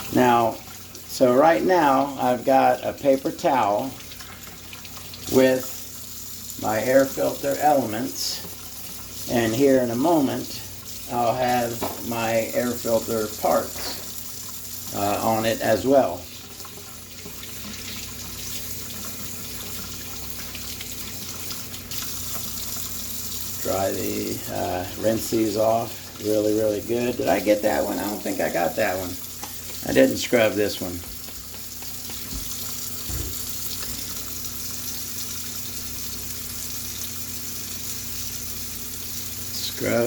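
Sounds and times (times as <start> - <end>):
water running from a tap: 0.0 - 40.0.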